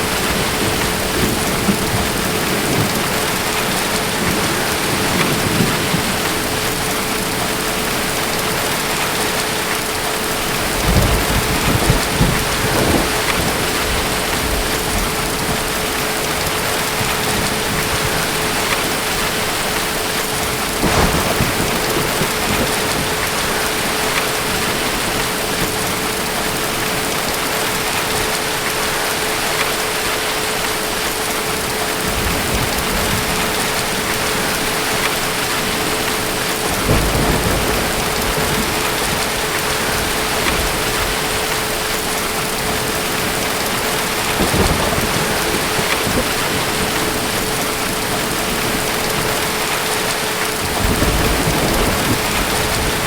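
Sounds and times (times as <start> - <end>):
distant thunder rumbling: 0.0 - 29.5, 31.6 - 53.0
heavy rain falling: 0.0 - 53.0.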